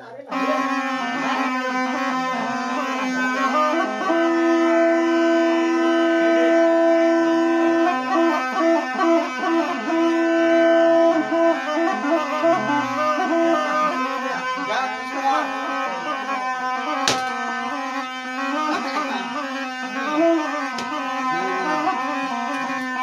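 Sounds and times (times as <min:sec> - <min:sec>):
wind instrument melody: 0:00.3 - 0:23.0
steady drone: 0:00.6 - 0:23.0.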